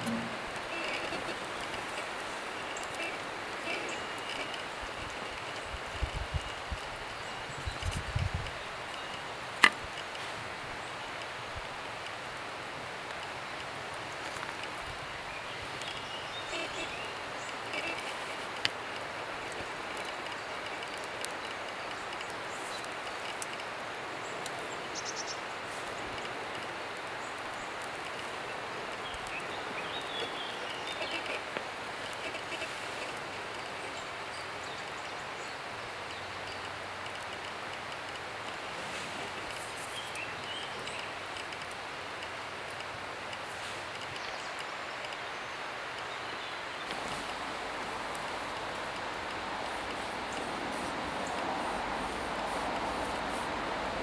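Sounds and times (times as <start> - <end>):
faint ticks: 0.0 - 12.3, 13.0 - 15.0, 15.7 - 46.2, 46.8 - 54.0
rushing outdoor noise: 0.0 - 54.0.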